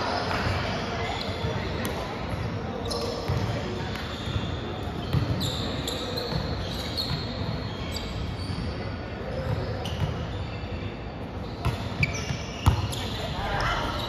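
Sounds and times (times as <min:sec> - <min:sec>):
sneakers squeaking on floor: 0:00.0 - 0:14.0.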